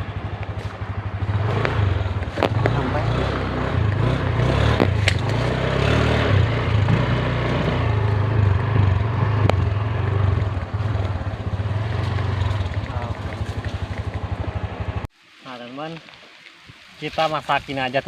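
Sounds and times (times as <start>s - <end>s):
engine running: 0.0s - 15.1s.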